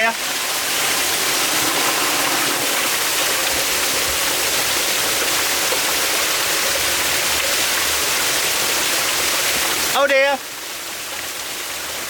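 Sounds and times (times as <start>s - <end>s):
water gushing from pipe: 0.0s - 12.0s.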